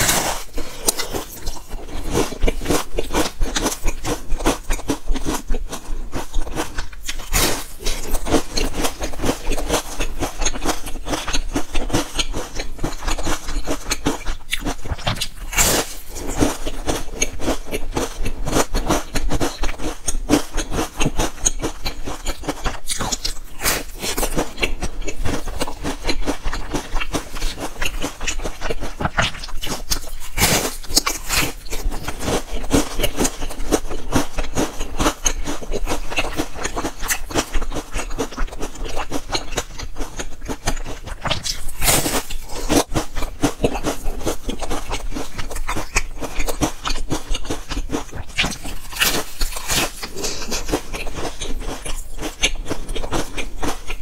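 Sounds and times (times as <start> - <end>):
crunching biscuit: 0.0 - 54.0.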